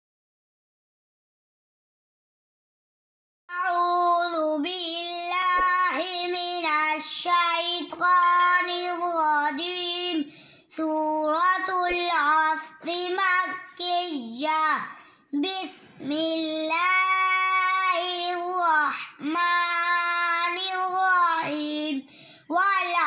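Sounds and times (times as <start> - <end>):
boy chanting recitation: 3.5 - 23.0.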